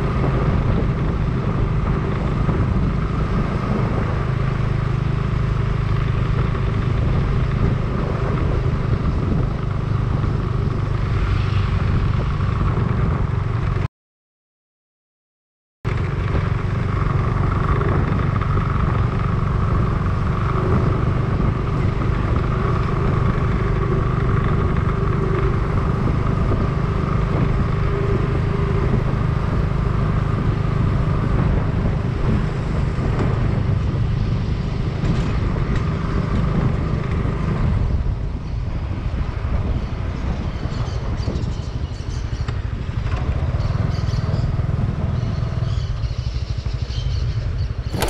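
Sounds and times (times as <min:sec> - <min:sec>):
vehicle engine and road noise: 0:00.0 - 0:13.9, 0:15.9 - 0:48.0.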